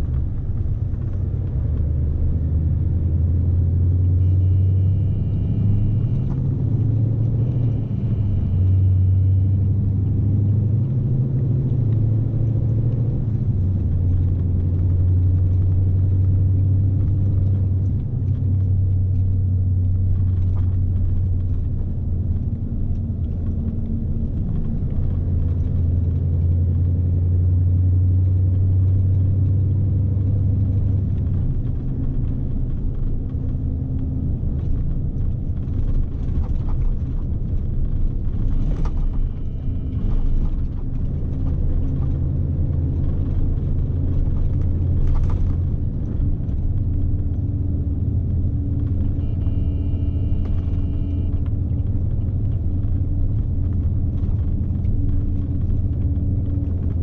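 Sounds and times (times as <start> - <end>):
diesel engine drone: 0.0 - 57.0
road rumble: 0.0 - 57.0.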